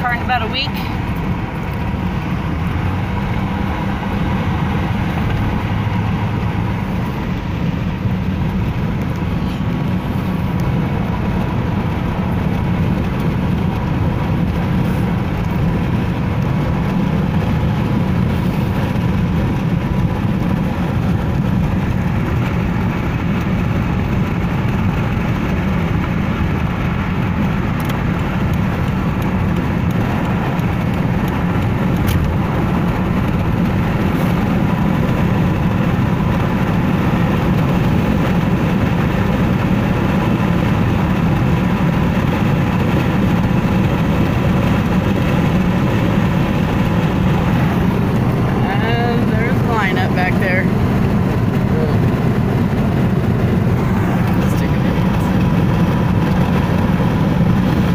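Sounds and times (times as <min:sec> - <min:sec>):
road noise inside car: 0:00.0 - 0:57.9.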